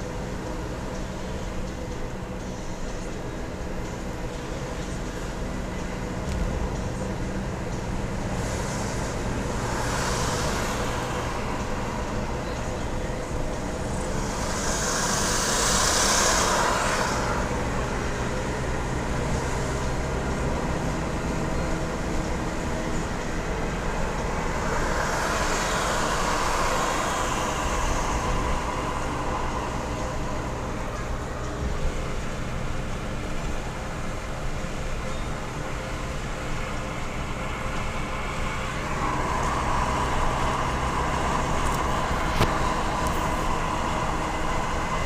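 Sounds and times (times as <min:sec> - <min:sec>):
car engine hum: 0:00.0 - 0:45.0
rushing noise: 0:00.0 - 0:45.0
tyre and road noise: 0:00.0 - 0:45.0.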